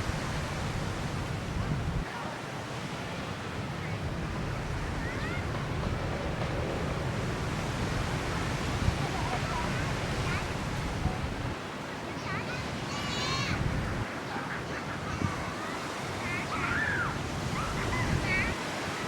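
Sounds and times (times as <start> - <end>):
wind buffeting microphone: 0.0 - 11.8, 12.4 - 14.1, 15.1 - 19.0
ocean surf on a beach: 0.0 - 19.0.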